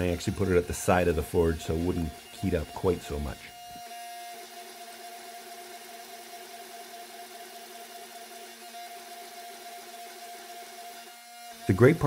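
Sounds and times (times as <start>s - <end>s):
hydraulic press pump humming: 0.0s - 12.0s.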